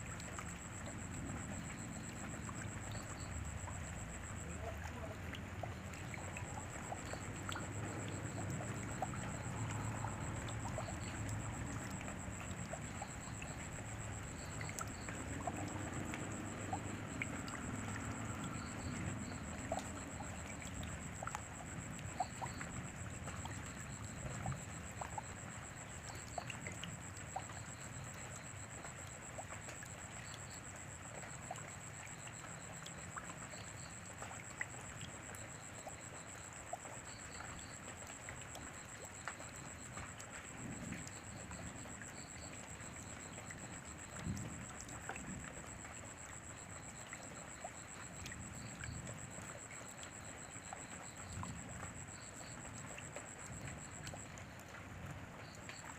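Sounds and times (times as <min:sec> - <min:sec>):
raindrops pattering: 0:00.0 - 0:55.9.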